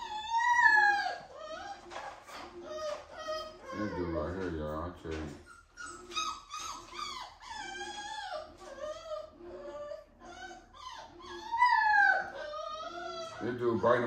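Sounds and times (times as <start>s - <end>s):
puppy whining and whimpering: 0.0s - 14.0s.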